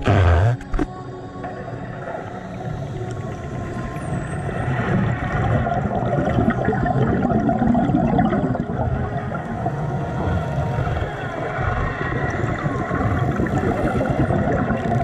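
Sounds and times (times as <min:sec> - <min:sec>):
underwater regulator bubbles: 0:02.8 - 0:15.0.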